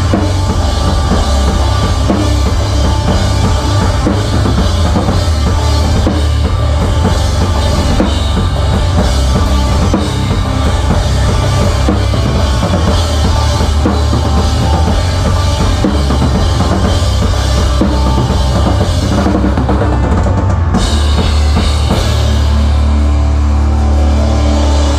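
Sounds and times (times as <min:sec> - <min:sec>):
rock band guitars and bass: 0:00.0 - 0:24.9
rock drum kit: 0:00.0 - 0:24.9.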